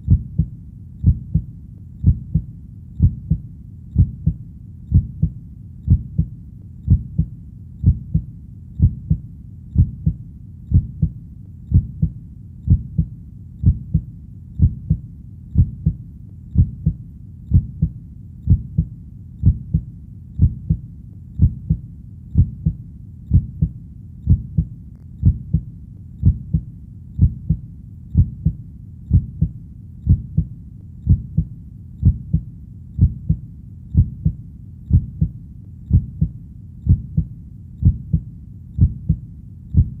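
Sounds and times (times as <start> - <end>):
heartbeat thumping: 0.0 - 40.0.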